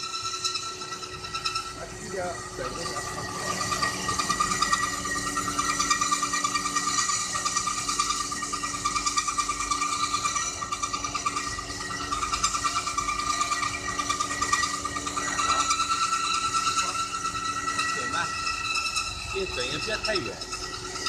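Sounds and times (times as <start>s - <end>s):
bandsaw cutting metal bar: 1.8s - 21.0s.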